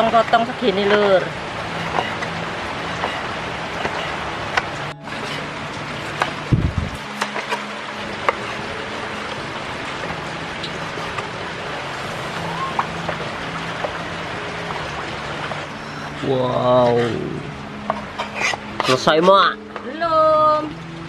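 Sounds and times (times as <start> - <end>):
rain hissing: 0.0 - 19.2.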